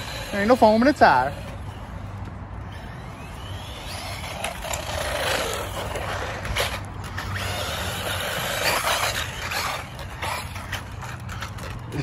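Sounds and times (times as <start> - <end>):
rc truck motor whine: 0.0 - 11.8
drivetrain and tyre noise: 0.0 - 12.0.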